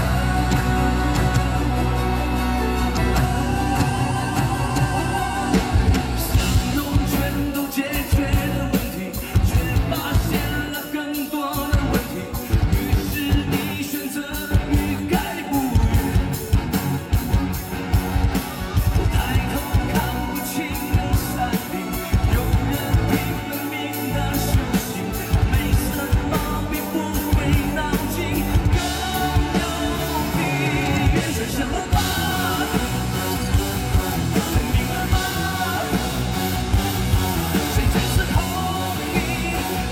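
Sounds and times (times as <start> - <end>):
person singing: 0.0 - 17.7, 18.3 - 39.9
fast drum beat: 0.0 - 39.9
live rock band: 0.0 - 39.9.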